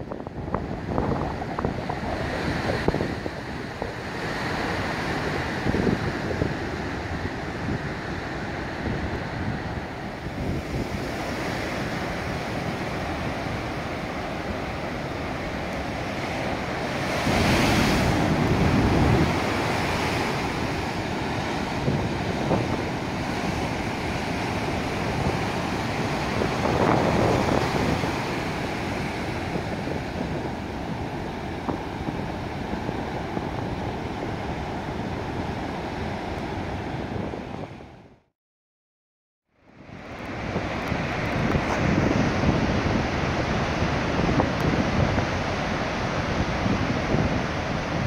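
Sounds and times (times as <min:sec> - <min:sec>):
heavy surf breaking: 0:00.0 - 0:37.8, 0:39.9 - 0:48.0
wind on microphone: 0:00.0 - 0:38.2, 0:39.7 - 0:48.0.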